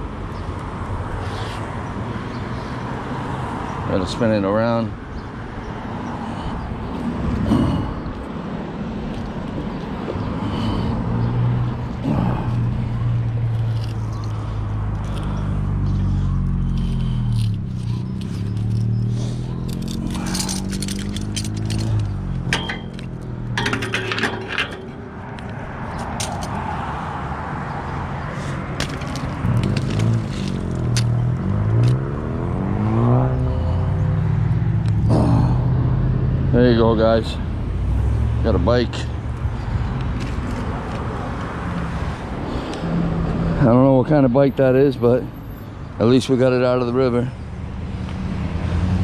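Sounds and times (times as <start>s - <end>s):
car traffic passing: 0.0s - 49.0s.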